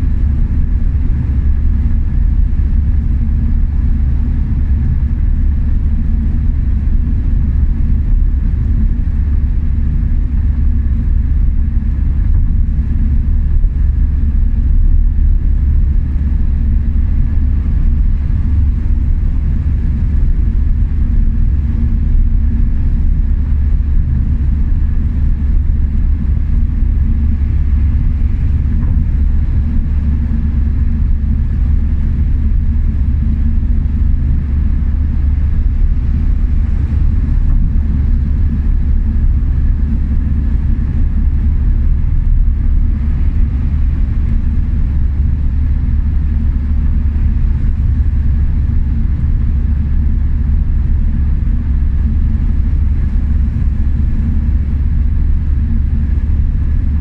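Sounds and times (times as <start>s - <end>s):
car engine and tyre rumble: 0.0s - 46.7s.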